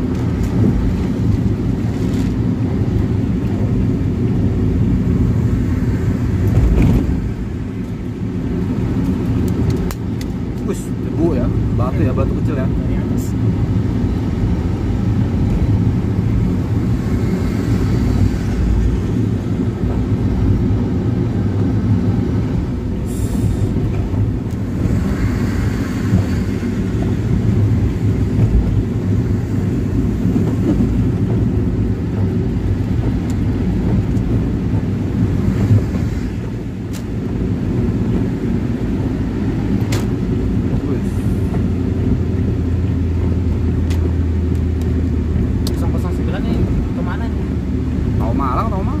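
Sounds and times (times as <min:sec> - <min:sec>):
tyres on wet road: 0:00.0 - 0:49.0
vehicle engine rumble: 0:00.0 - 0:49.0.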